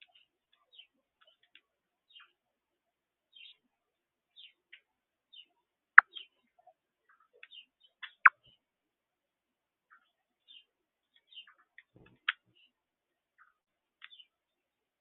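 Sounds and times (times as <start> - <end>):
small birds chirping: 0.0 - 2.6, 3.3 - 8.7, 9.8 - 14.7.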